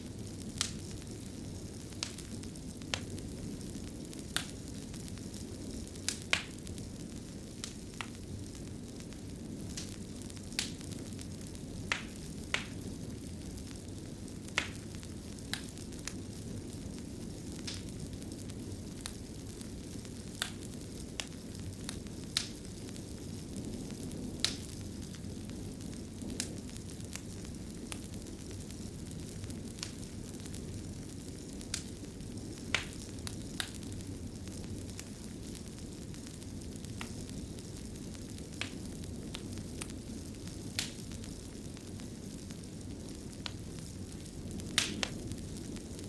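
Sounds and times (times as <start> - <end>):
fire popping: 0.0 - 46.0
wood fire rumbling: 0.0 - 46.0.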